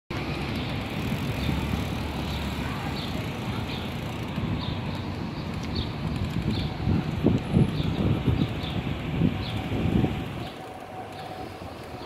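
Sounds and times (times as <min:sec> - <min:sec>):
bicycle rolling over paving stones: 0:00.2 - 0:12.0.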